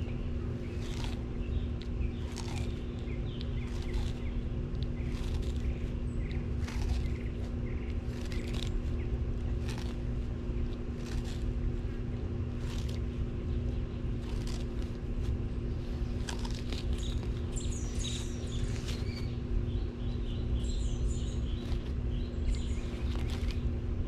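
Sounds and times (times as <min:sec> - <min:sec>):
birds chirping: 0:00.0 - 0:24.0
low hum: 0:00.0 - 0:24.0
tortoise chewing pumpkin: 0:00.0 - 0:24.0.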